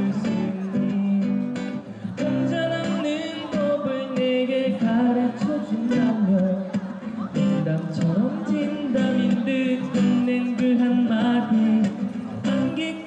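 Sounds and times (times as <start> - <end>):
person singing pop ballad: 0.0 - 13.0
strummed acoustic guitar: 0.0 - 13.0.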